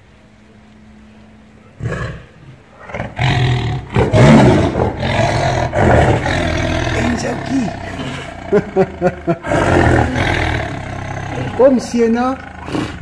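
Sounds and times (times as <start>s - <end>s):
tiger growling and roaring: 0.9s - 13.0s.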